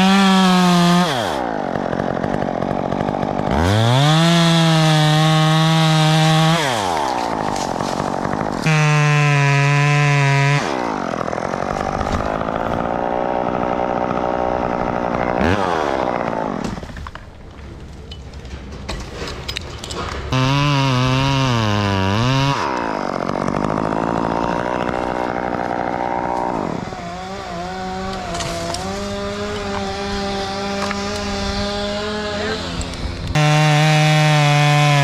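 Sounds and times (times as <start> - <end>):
chainsaw revving and cutting wood: 0.0 - 17.6, 18.5 - 35.0.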